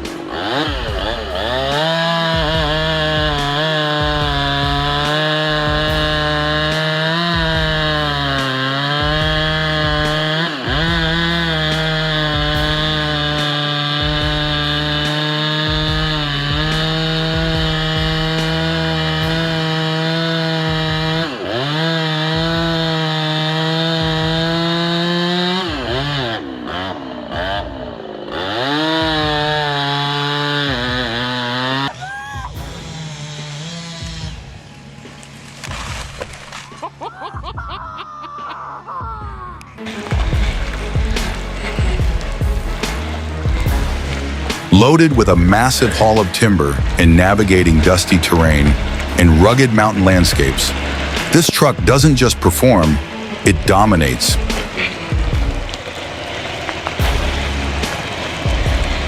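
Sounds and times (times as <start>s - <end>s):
chainsaw cutting wood: 0.0s - 37.8s, 39.7s - 59.0s.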